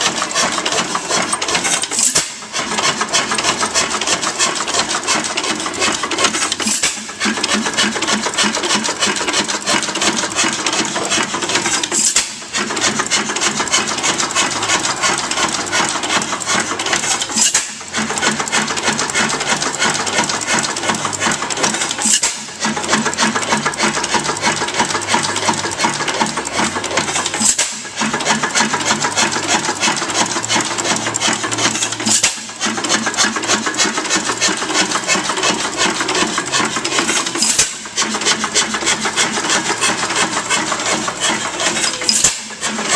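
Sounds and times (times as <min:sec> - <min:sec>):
hit-and-miss engine clattering: 0:00.0 - 0:42.9.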